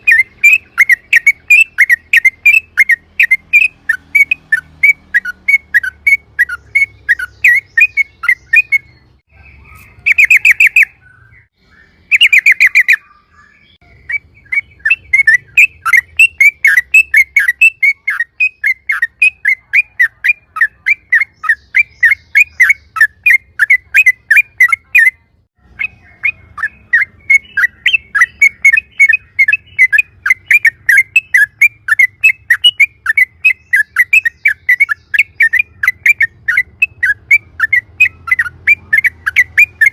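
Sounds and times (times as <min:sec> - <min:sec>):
bird buzzy trills: 0:00.0 - 0:39.9
bird chirping song: 0:00.0 - 0:39.9.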